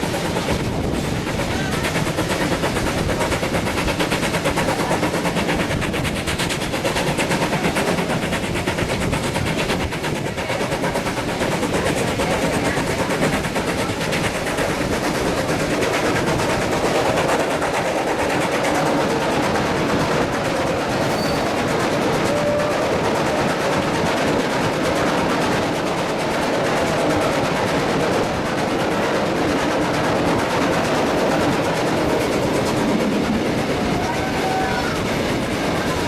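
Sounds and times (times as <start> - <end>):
steam train clattering: 0.0 - 36.0.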